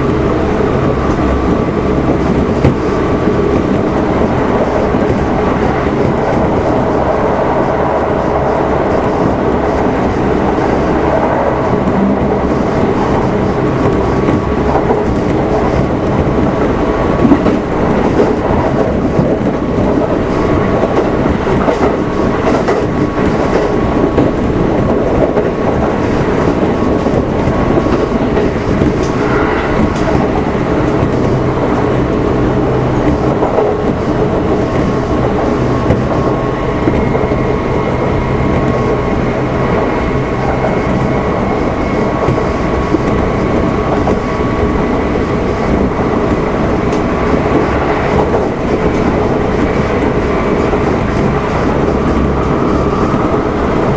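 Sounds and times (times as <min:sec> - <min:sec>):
train wheels on rail drone: 0:00.0 - 0:53.9.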